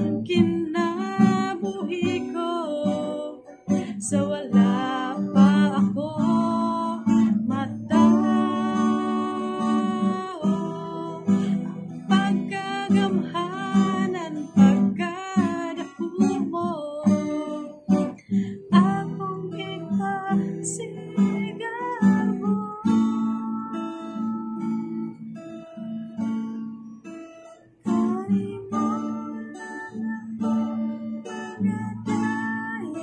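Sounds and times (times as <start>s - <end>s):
woman singing: 0.0s - 25.2s, 27.8s - 33.0s
acoustic guitar strumming: 0.0s - 33.0s.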